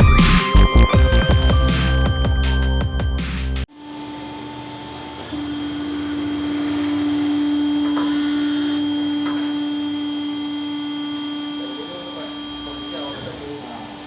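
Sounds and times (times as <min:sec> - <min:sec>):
resurfacing machine humming: 0:00.0 - 0:14.0.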